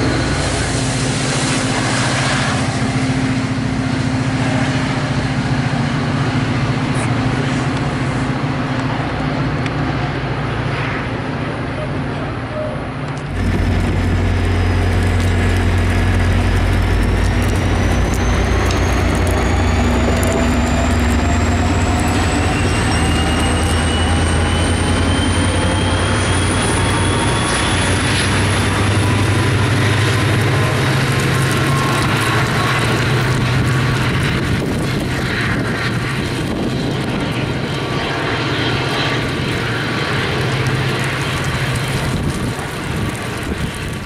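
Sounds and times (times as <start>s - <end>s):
rising whine: 0.0s - 11.9s, 12.9s - 44.0s
diesel train engine rumble: 0.0s - 44.0s.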